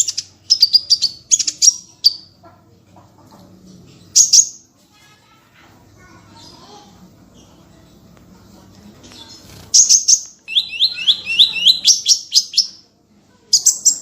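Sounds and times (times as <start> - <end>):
songbird singing: 0.0 - 4.7, 6.3 - 14.0.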